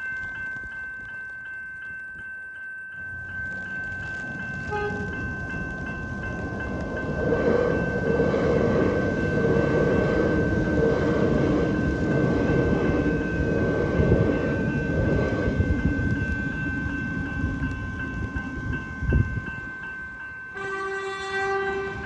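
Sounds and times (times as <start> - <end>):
crossing bell ringing: 0.0 - 22.0
train rumbling past: 2.9 - 22.0.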